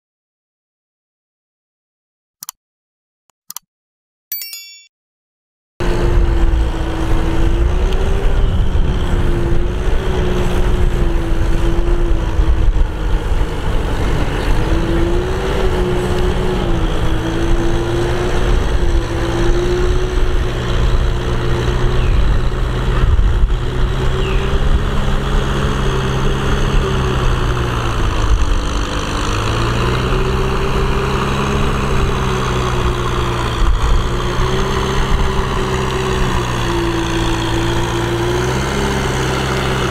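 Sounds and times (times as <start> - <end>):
tractor diesel engine under load: 5.8 - 39.9.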